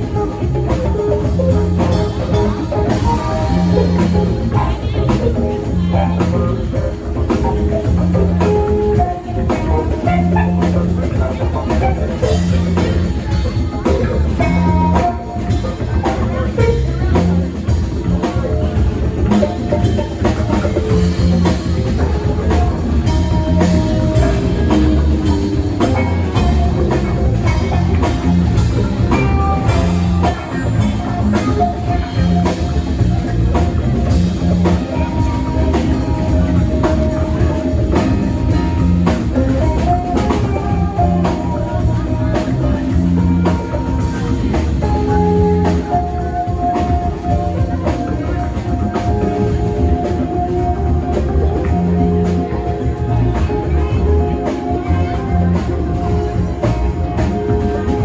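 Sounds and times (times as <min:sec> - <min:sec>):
drum kit beat: 0:00.0 - 0:58.0
rock band playing: 0:00.0 - 0:58.0.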